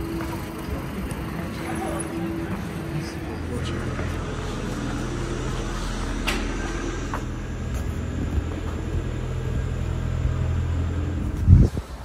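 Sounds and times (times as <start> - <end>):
engine humming: 0.0 - 12.0
street noise: 0.0 - 12.0.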